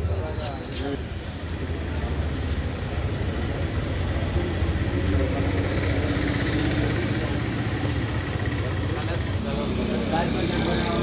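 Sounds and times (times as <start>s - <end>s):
vehicle engine idling: 1.0s - 11.0s.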